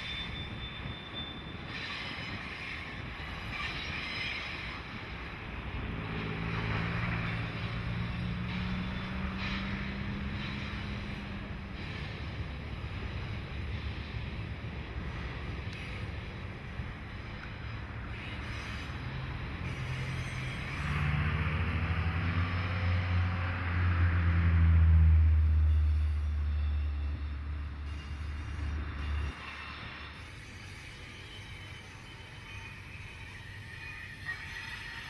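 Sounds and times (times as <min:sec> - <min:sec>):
locomotive engine drone: 0:00.0 - 0:35.0
rushing rail noise: 0:00.0 - 0:35.0.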